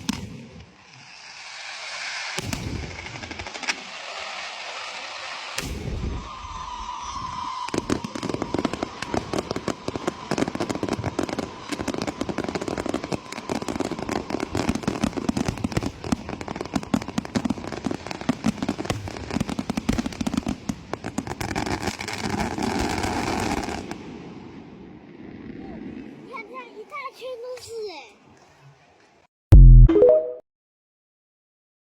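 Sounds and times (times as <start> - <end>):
fireworks bangs and crackles: 0.0 - 26.2.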